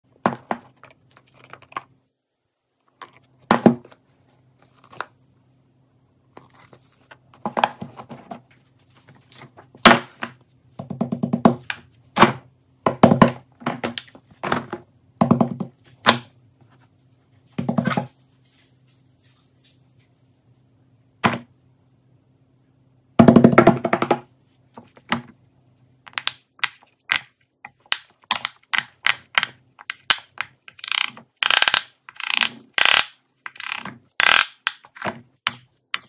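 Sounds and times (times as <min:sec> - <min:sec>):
low steady hum: 0:00.1 - 0:31.4.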